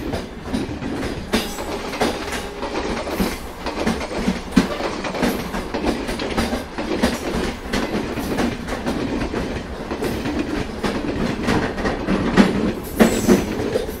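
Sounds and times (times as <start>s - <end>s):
train wheels clattering over track: 0.0s - 14.0s.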